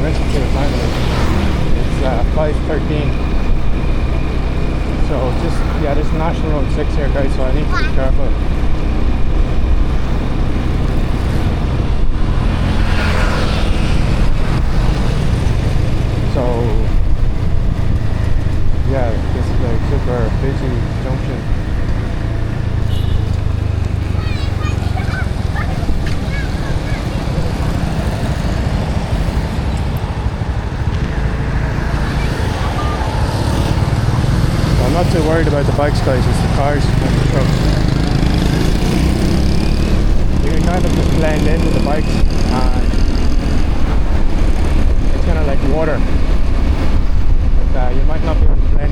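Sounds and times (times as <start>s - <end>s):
motorbike engine rumble: 0.0s - 48.9s
road traffic: 0.0s - 48.9s.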